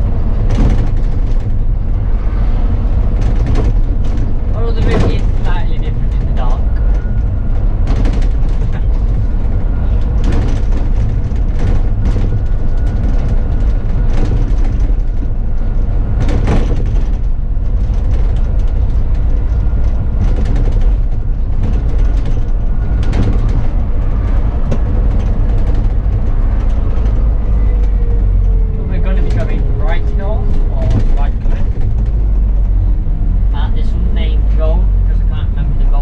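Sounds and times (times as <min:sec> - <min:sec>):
bodywork rattling: 0:00.0 - 0:33.8
bus engine and road rumble: 0:00.0 - 0:36.0.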